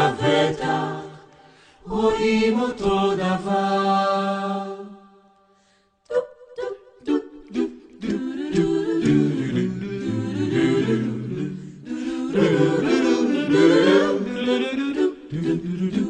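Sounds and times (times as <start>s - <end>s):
a cappella vocal harmony: 0.0s - 16.0s.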